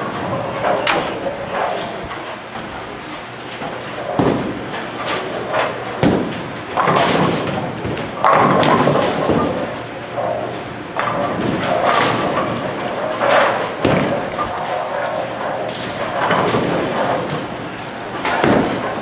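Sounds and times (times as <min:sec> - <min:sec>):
bowling balls crashing into pins: 0:03.6 - 0:19.0.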